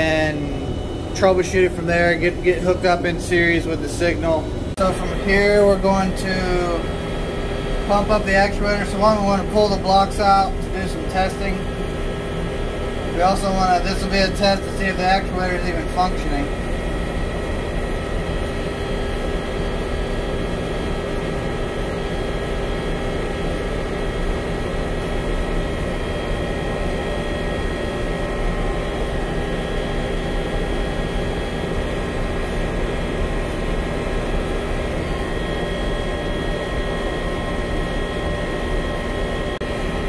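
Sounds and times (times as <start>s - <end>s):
air-handling machinery drone: 0.0s - 40.0s.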